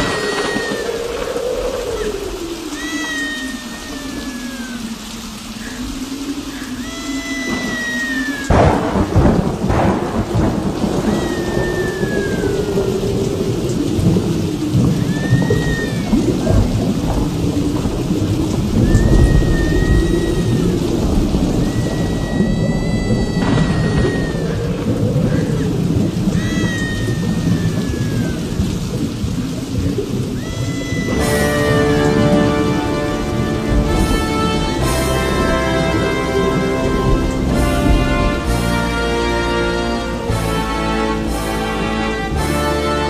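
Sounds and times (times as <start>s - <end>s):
thunder crashing: 0.0s - 4.0s, 7.4s - 40.6s
low wavering howl: 0.0s - 40.4s
high falling call: 0.0s - 43.0s
steady rain: 0.0s - 43.0s.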